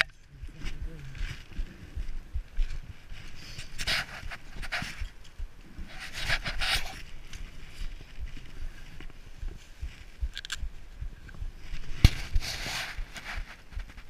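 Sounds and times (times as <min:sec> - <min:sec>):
scraping and rustling on camera: 0:00.0 - 0:10.6, 0:11.6 - 0:14.0
wind: 0:00.0 - 0:14.0.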